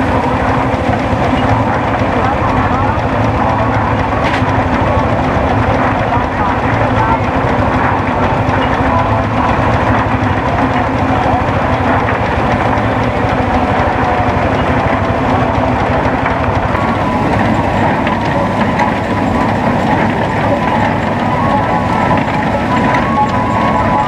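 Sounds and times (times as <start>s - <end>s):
hay baler clattering: 0.0s - 24.0s
steam traction engine chuffing: 0.0s - 24.0s.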